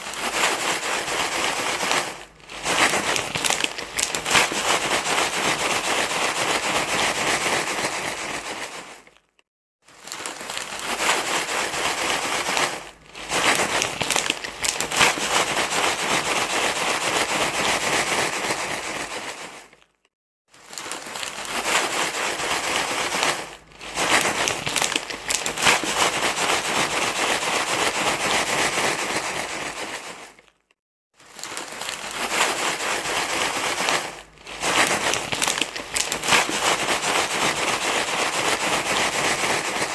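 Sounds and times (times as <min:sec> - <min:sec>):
crinkling rustle: 0:00.0 - 0:39.9.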